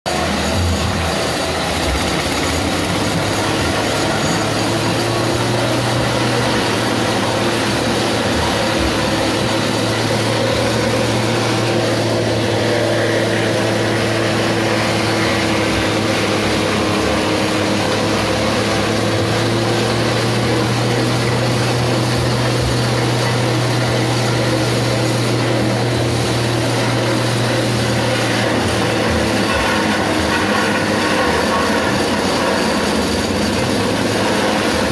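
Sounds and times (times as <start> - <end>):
forage chopper droning: 0.0 - 34.9
fodder rattling being shredded: 0.1 - 34.9.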